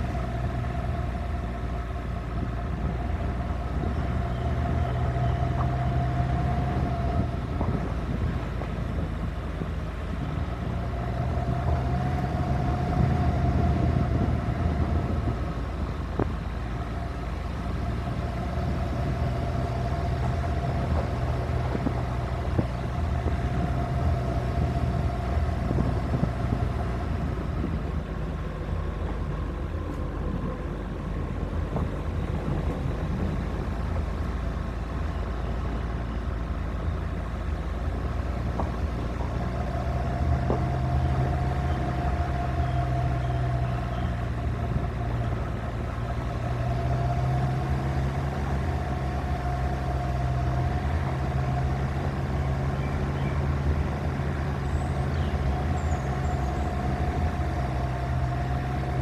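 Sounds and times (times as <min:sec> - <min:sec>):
car engine hum: 0:00.0 - 0:59.0.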